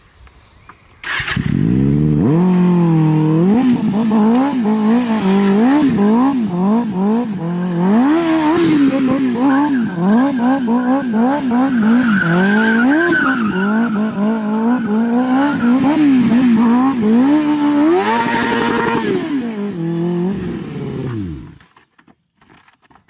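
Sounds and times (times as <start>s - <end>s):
motorcycle engine revving: 1.0s - 21.7s.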